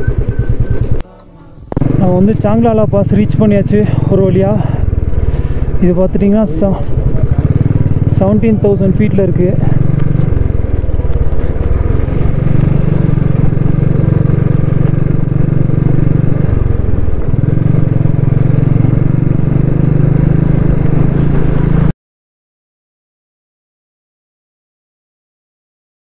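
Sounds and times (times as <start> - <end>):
motorcycle engine running: 0.0 - 1.0, 1.7 - 21.9.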